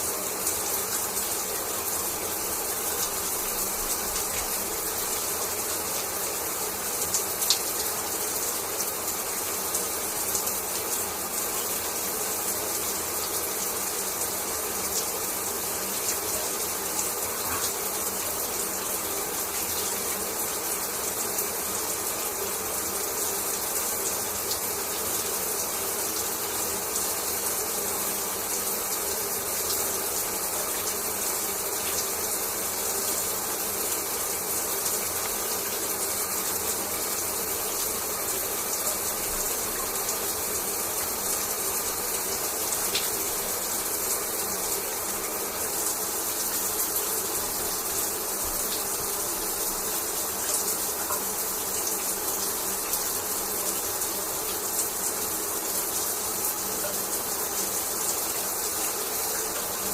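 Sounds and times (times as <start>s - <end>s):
shower water spraying: 0.0s - 59.9s.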